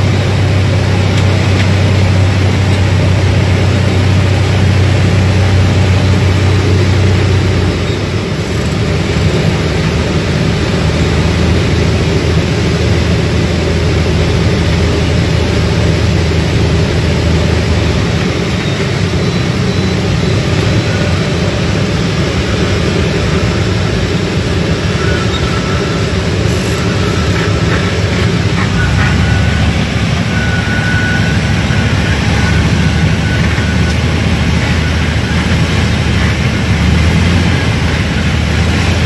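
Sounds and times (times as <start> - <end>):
constant rushing noise: 0.0 - 39.0
small plane engine droning: 0.0 - 39.0.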